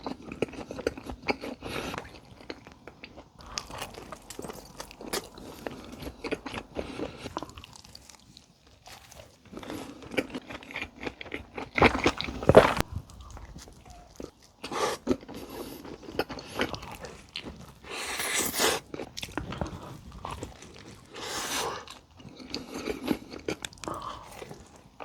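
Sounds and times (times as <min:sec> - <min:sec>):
crunchy chewing close up: 0:00.0 - 0:25.0.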